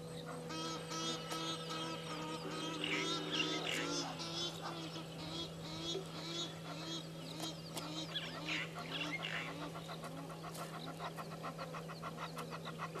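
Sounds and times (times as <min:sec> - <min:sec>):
bird chirps and trills: 0:00.0 - 0:13.0
low hum: 0:00.0 - 0:13.0.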